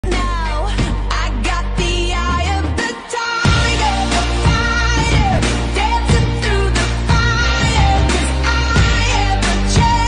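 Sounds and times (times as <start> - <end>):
heavy bass: 0.0 - 10.0
pop song with singing: 0.0 - 10.0.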